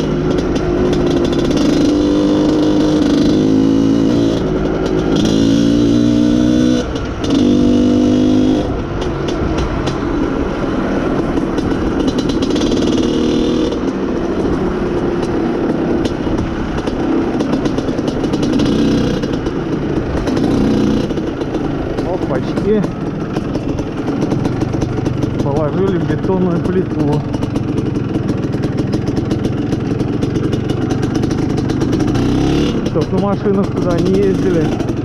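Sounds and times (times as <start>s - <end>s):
two-stroke motorcycle engine revving: 0.0s - 35.0s.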